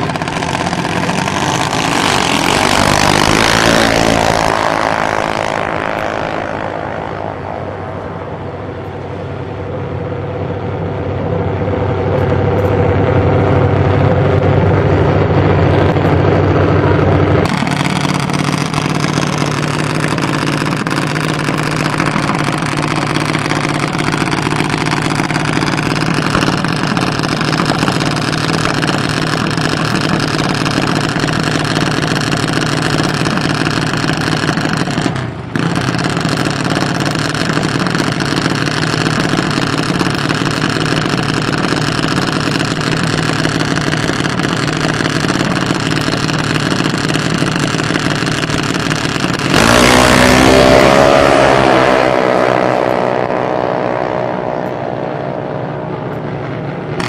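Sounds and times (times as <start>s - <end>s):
dragster engine revving hard: 0.0s - 7.7s, 16.8s - 56.0s
dragster engine idling: 0.0s - 57.0s.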